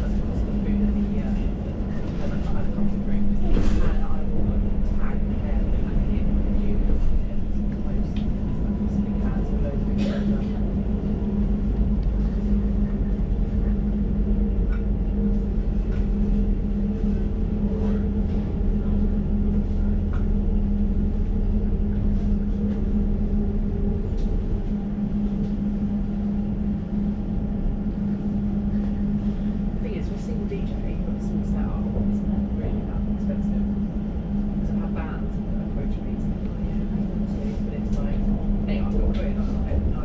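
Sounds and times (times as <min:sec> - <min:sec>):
train interior rumble and hum: 0:00.0 - 0:40.0.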